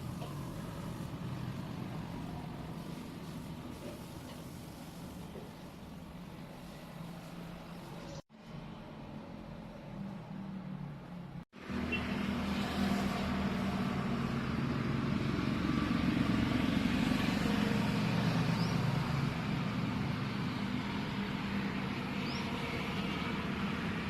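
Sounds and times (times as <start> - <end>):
road traffic rumble: 0.0 - 24.0
vehicle engine: 0.0 - 24.0.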